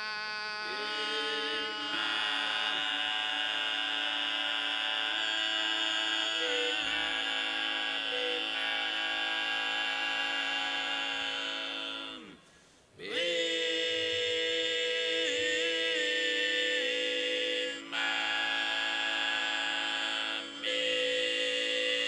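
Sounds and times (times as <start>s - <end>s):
male voices singing in harmony: 0.0s - 22.0s.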